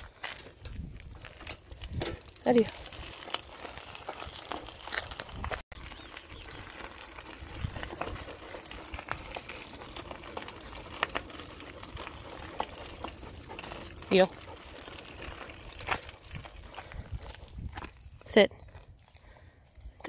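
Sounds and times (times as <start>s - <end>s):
footsteps crunching on gravel: 0.0s - 19.5s.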